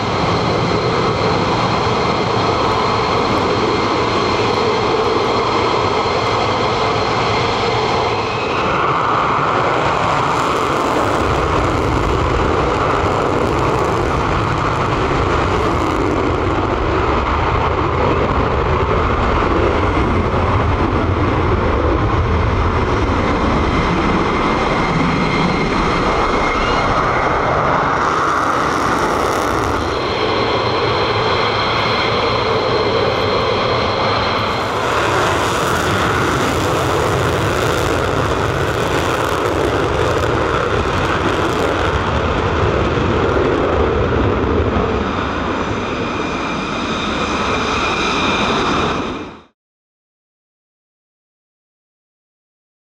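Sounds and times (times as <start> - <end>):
jet engines running: 0.0 - 49.5
jet taking off on afterburner: 0.0 - 49.6.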